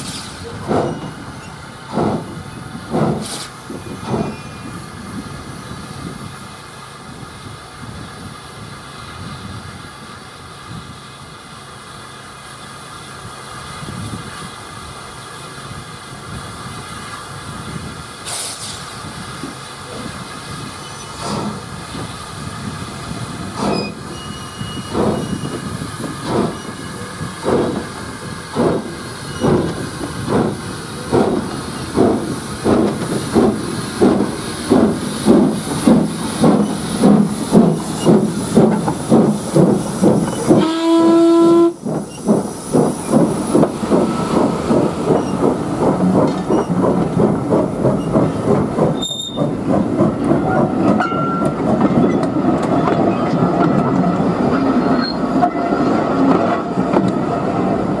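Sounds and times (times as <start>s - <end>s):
steam hissing: 0.0s - 53.6s
steam locomotive exhaust chuffs: 0.0s - 58.0s.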